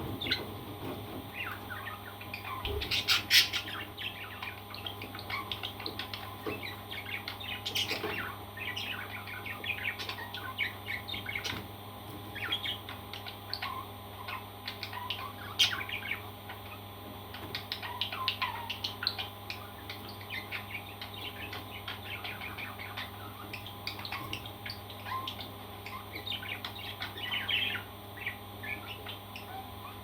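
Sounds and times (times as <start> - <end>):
parrots chirping: 0.0 - 11.6, 12.2 - 30.0
steady low hum: 0.0 - 30.0.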